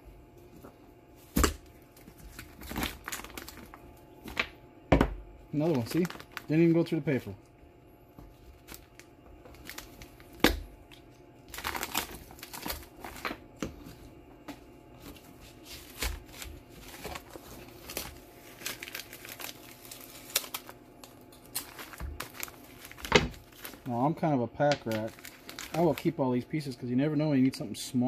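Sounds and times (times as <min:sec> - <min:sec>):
protective film crinkling: 0:01.2 - 0:04.6, 0:05.5 - 0:26.8.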